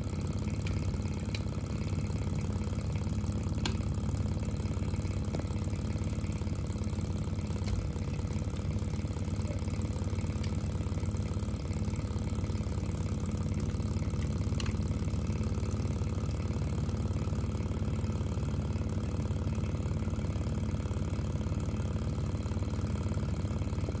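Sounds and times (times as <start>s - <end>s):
model engine humming: 0.0s - 24.0s.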